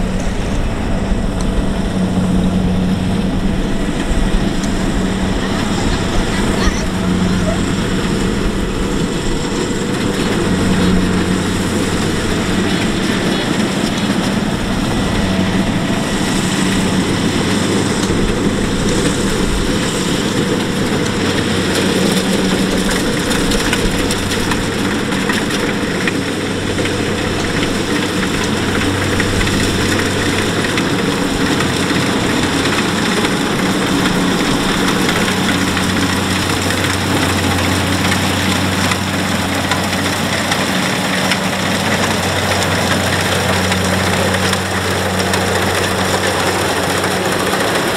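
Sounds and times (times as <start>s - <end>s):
combine harvester diesel engine hum: 0.0s - 47.9s
mechanical machinery noise: 0.0s - 47.9s.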